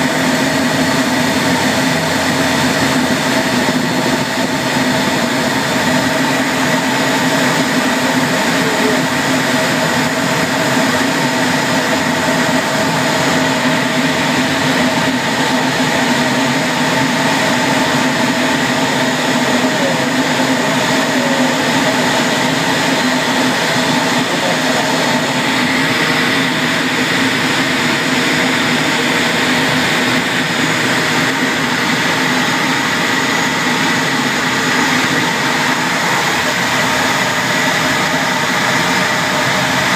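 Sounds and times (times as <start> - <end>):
jet engines in cockpit hissing: 0.0 - 39.9
steady whining tones: 0.0 - 39.9.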